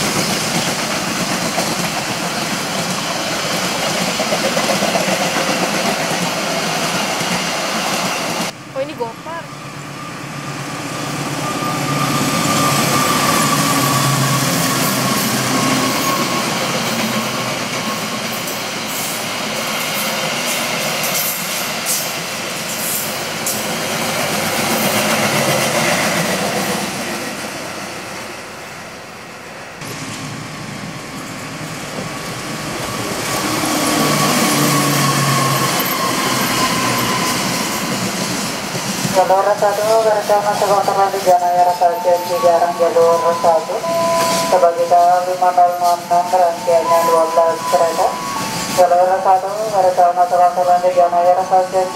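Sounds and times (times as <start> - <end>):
diesel locomotive engine drone: 0.0 - 51.9
train coaches rumbling and clattering: 0.0 - 51.9.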